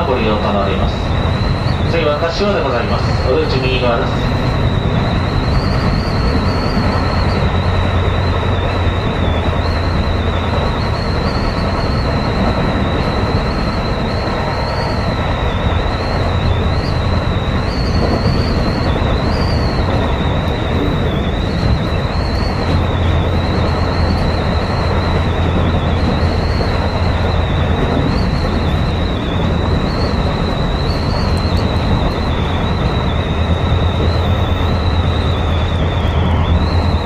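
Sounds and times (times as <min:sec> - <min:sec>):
thin high wavering whine: 0:00.0 - 0:37.0
train wheels rumbling on rails: 0:00.0 - 0:37.0.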